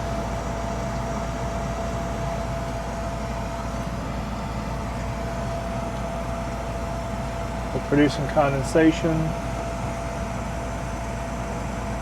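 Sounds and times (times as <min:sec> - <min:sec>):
gas furnace humming: 0:00.0 - 0:12.0
thin steady whine: 0:00.0 - 0:12.0.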